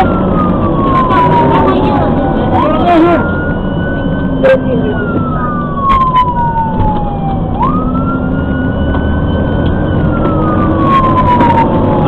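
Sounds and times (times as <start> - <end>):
engine and road noise: 0.0 - 12.0
fire engine siren wailing: 0.0 - 12.0.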